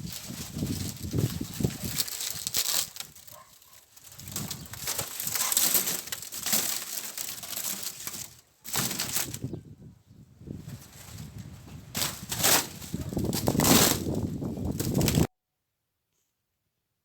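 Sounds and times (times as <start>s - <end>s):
plastic sheeting crinkling and crackling: 0.0s - 9.5s, 10.5s - 15.3s.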